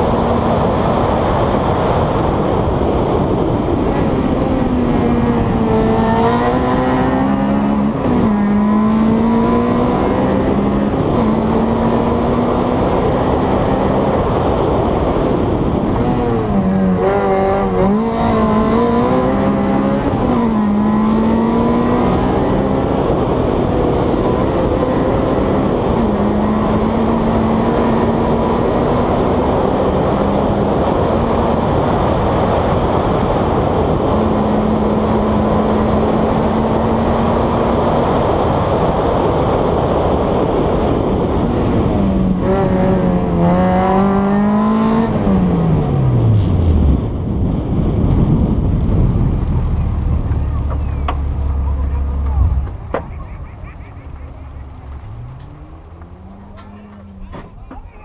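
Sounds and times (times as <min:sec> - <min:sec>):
race car engine at high revs: 0:00.0 - 0:58.0.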